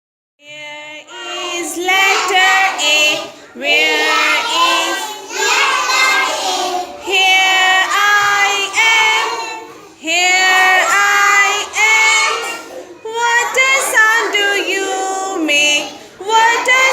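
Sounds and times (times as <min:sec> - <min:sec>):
child singing: 0:00.4 - 0:16.9.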